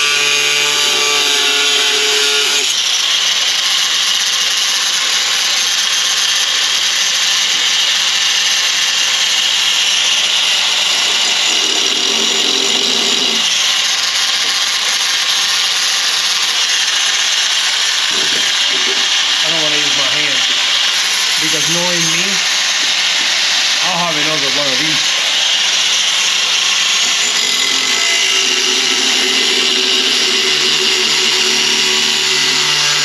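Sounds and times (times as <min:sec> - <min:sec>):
power tool grinding: 0:00.0 - 0:33.0.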